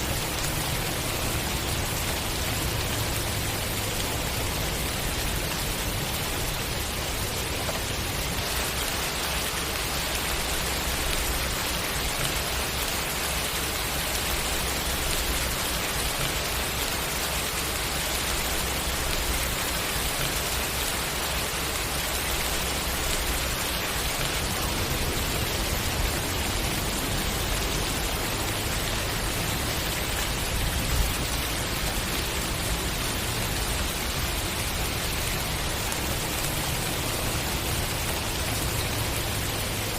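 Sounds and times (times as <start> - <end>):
louder rain patter: 0.0 - 39.9
steady rain falling: 0.0 - 39.9.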